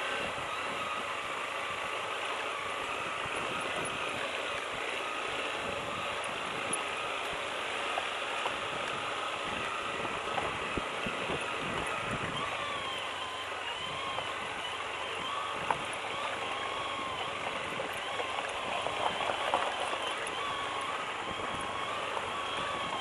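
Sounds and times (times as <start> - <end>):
motorcycle engine running: 0.0 - 23.0
small ticks: 2.5 - 23.0.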